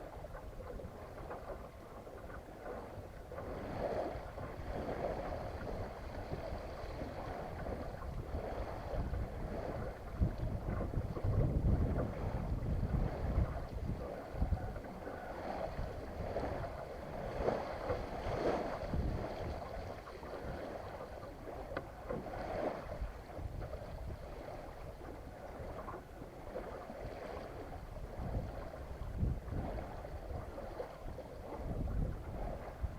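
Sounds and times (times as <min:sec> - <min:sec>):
water lapping against boat hull: 0:00.0 - 0:32.9
wind rumbling on microphone: 0:00.0 - 0:32.9.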